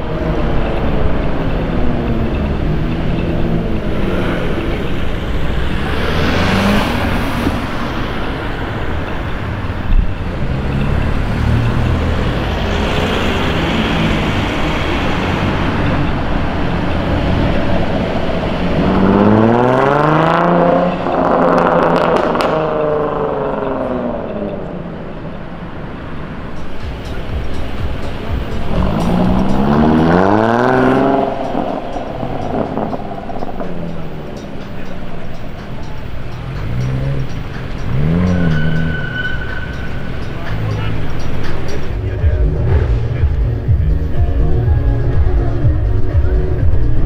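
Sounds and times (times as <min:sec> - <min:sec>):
sports car exhaust accelerating: 0:00.0 - 0:47.0.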